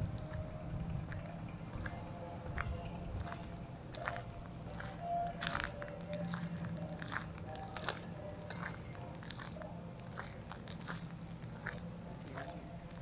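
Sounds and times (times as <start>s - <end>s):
steady low hum: 0.0s - 13.0s
footsteps on gritty concrete: 1.1s - 13.0s.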